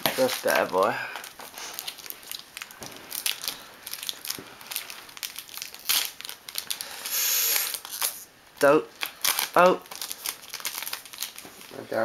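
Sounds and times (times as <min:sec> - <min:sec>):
wrapper being torn and crinkled: 0:00.0 - 0:12.0.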